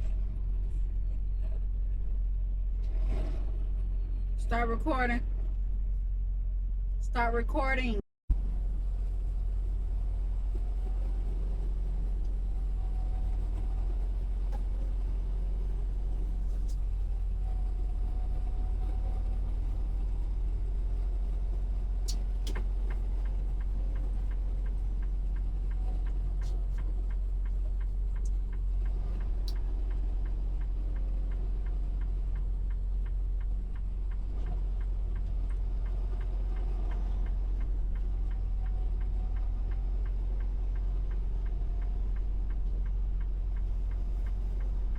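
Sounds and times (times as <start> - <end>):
road noise: 0.0 - 44.9
truck engine rumble: 0.0 - 44.9
faint ticking: 8.3 - 44.9.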